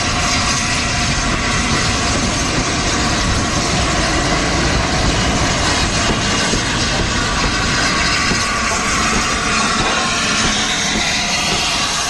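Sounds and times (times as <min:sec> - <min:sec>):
steam locomotive passing: 0:00.0 - 0:12.0.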